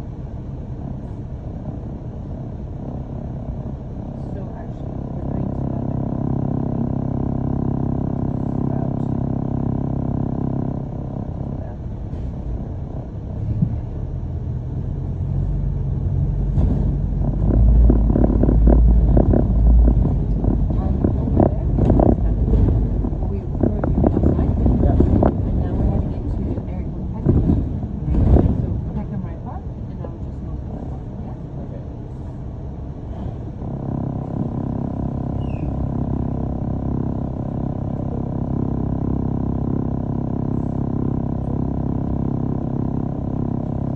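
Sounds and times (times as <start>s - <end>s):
bus engine and road rumble: 0.0s - 43.9s
steady hum: 0.0s - 43.9s.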